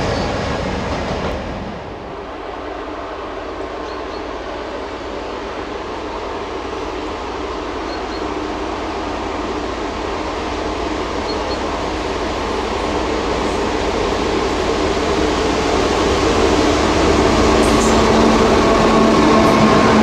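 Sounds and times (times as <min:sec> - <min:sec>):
diesel locomotive engine droning: 0:00.0 - 0:20.0.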